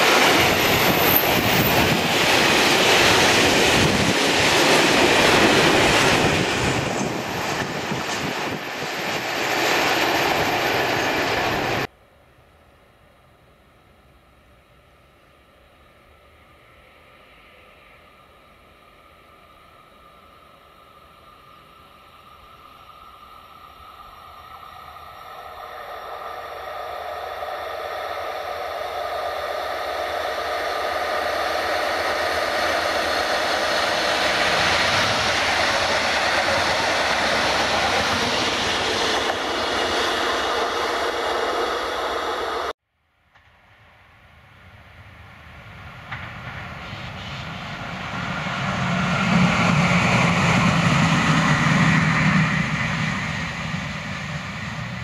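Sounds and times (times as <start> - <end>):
electric locomotive rumble: 0.0 - 11.9, 14.5 - 42.8, 44.7 - 55.0
train rolling on rails: 0.0 - 11.9, 15.6 - 55.0.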